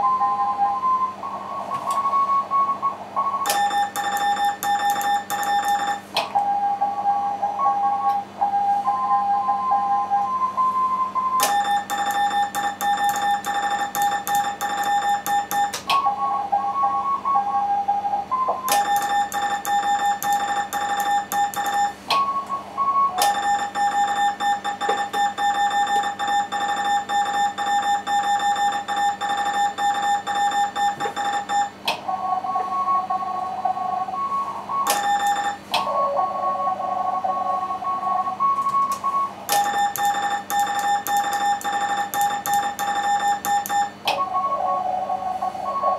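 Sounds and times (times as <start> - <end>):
loud morse code tone: 3.4 - 10.8, 11.4 - 17.1, 18.7 - 31.8, 34.1 - 44.9.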